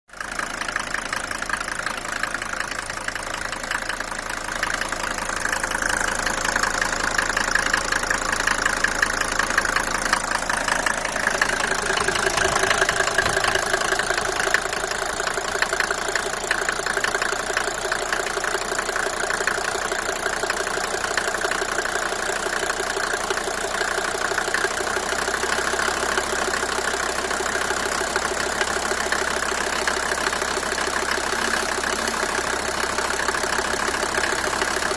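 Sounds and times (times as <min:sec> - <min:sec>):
diesel engine idling with ticking: 0:00.1 - 0:34.9.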